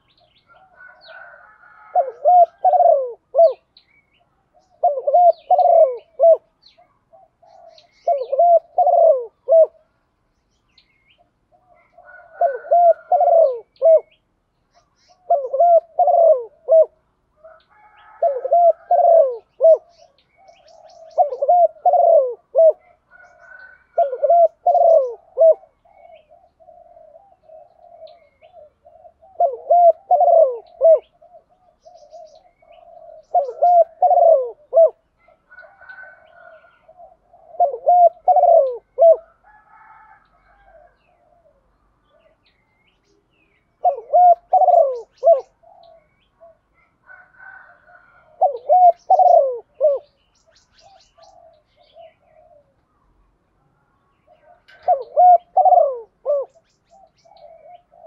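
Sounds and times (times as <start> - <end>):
dove cooing: 0.0 - 10.0, 11.2 - 14.2, 15.1 - 42.6, 43.2 - 52.9, 53.8 - 58.0.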